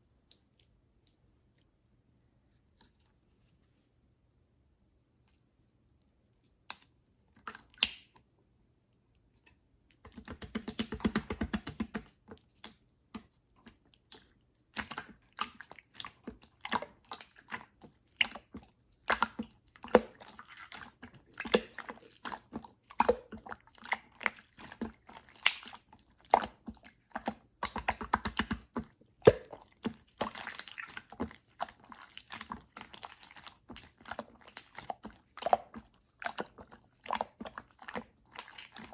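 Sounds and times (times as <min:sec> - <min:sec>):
slime squishing with wet clicks: 0:00.0 - 0:01.9, 0:05.2 - 0:38.9.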